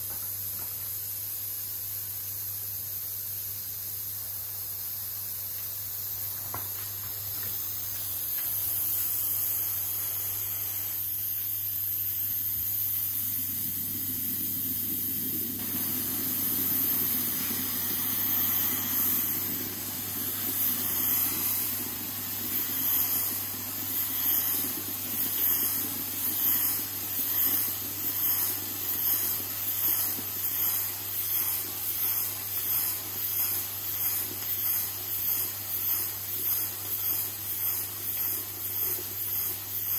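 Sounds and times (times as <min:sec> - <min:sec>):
moka pot hissing steam: 0:00.0 - 0:39.9.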